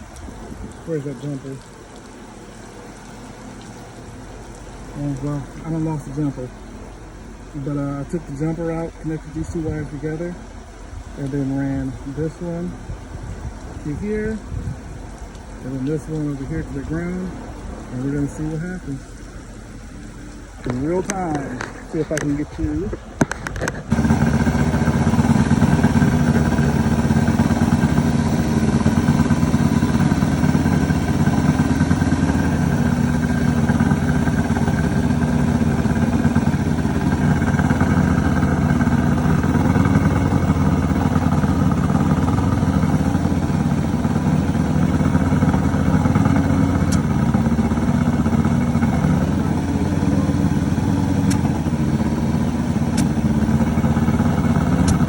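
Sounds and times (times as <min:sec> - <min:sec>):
outboard motor starting and idling: 0:00.0 - 0:55.0.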